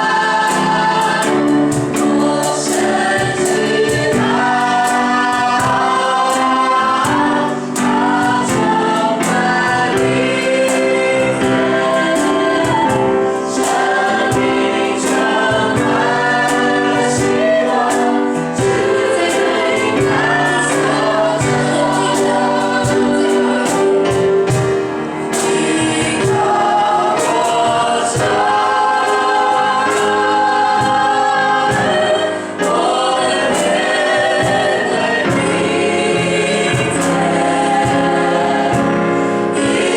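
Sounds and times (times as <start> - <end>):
choir singing in parts: 0.0 - 39.9
instrumental backing: 0.0 - 39.9
percussion: 0.0 - 39.9.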